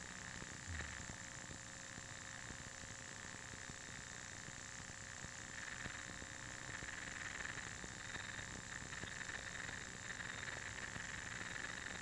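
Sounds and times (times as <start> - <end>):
crackling static hiss: 0.0 - 12.0
faint ticks: 0.0 - 12.0.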